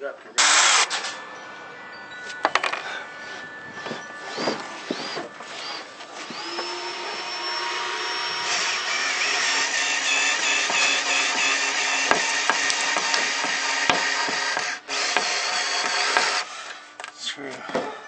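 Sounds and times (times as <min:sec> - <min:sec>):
power drill whining: 0:00.4 - 0:16.9.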